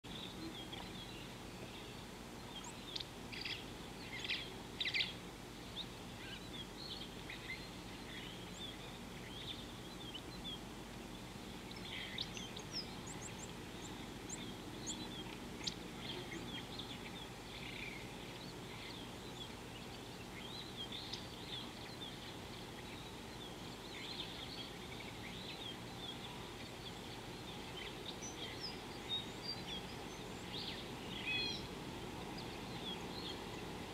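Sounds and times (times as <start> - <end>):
steady background hiss: 0.0 - 33.9
wild birds chirping: 0.0 - 33.9.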